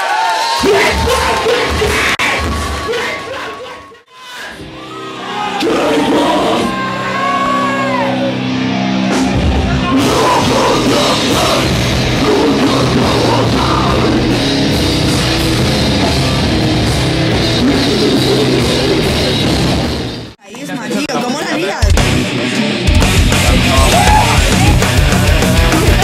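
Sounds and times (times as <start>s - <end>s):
heavy metal band playing: 0.6s - 4.0s, 4.6s - 26.0s.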